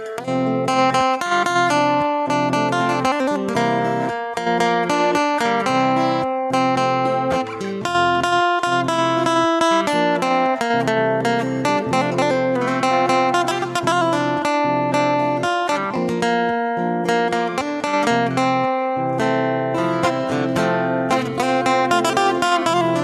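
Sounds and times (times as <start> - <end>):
plucked acoustic guitar melody: 0.0 - 23.0.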